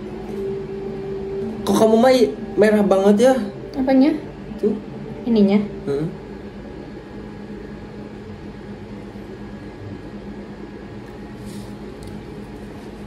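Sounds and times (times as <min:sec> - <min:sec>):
constant low tone: 0:00.0 - 0:13.0
low background hum: 0:00.0 - 0:13.0.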